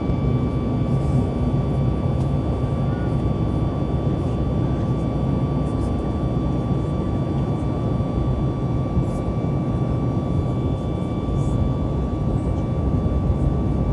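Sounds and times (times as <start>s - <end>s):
jet engine deep rumble: 0.0s - 13.9s
jet engine high whine: 0.0s - 13.9s.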